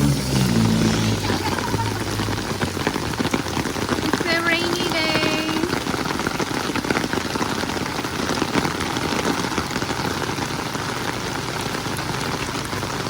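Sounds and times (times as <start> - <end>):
steady rain pattering: 0.0 - 13.0.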